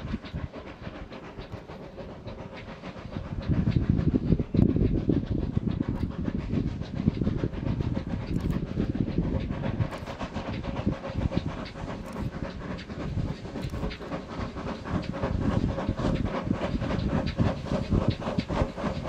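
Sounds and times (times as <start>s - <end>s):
steam locomotive exhaust beating: 0.0s - 19.0s.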